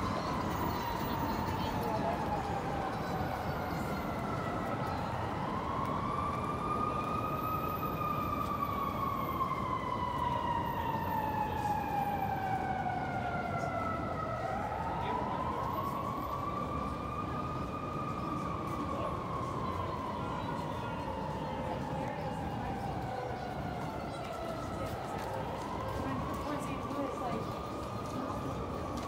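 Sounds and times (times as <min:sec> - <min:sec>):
city traffic noise: 0:00.0 - 0:29.0
emergency siren wailing: 0:00.0 - 0:29.0.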